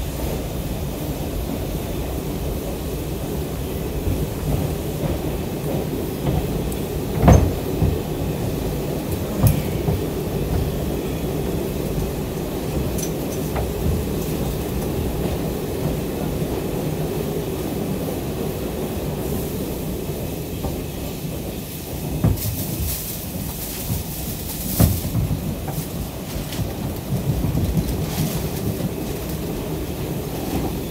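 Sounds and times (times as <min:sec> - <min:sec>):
subway car rumbling on rails: 0:00.0 - 0:30.9.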